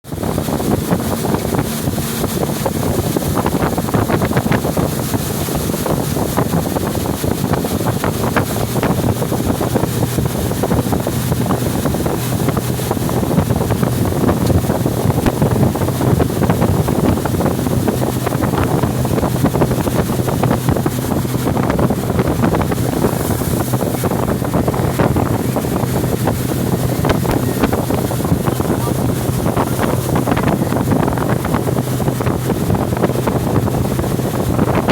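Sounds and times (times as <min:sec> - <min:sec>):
motorboat engine humming: 0:00.0 - 0:34.9
wind on microphone: 0:00.0 - 0:34.9.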